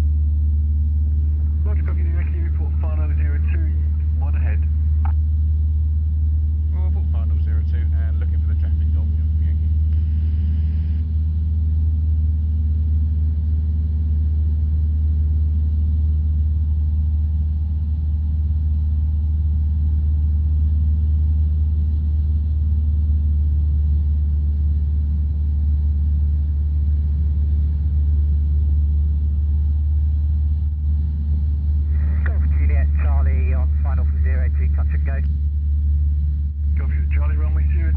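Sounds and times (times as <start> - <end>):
aircraft engine and propeller drone: 0.0 - 37.9.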